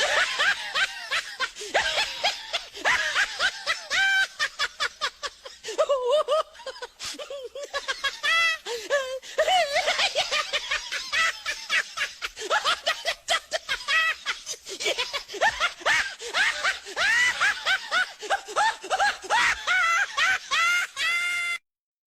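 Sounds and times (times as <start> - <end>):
high-pitched giggling laughter: 0.0 - 21.6.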